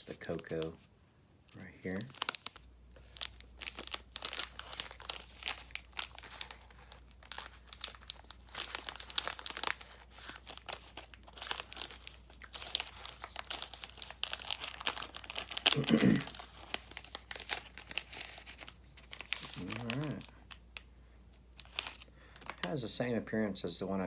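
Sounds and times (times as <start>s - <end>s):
plastic wrapper crinkling and tearing: 0.0s - 0.9s, 1.5s - 23.0s.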